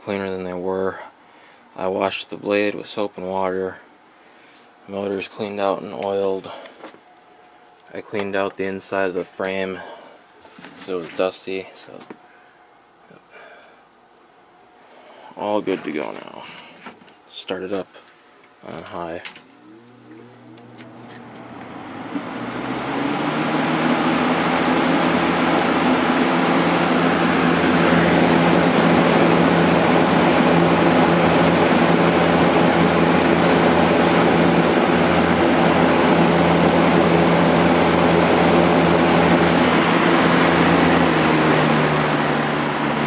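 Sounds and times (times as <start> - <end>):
box fan running: 0.0 - 43.0.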